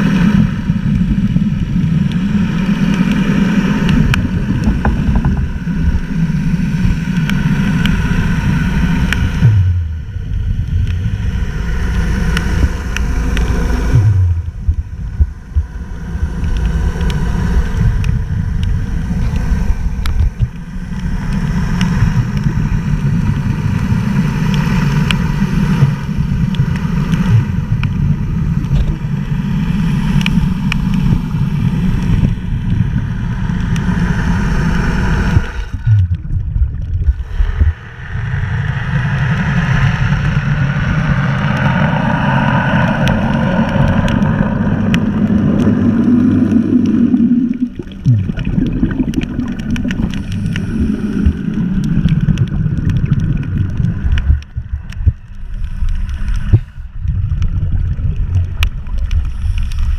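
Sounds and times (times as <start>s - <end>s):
small boat motor running: 0.0s - 57.0s
wind and water noise on microphone: 0.0s - 59.9s.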